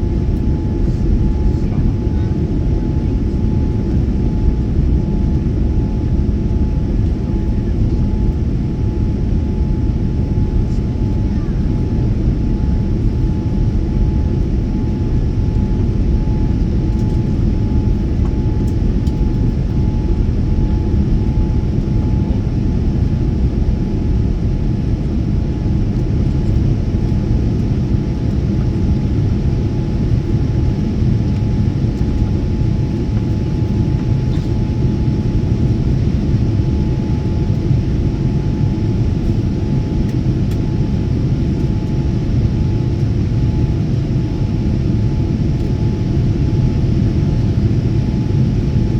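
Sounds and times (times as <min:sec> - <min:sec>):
faint steady whine: 0:00.0 - 0:48.9
jet engine and airflow rumble: 0:00.0 - 0:48.9.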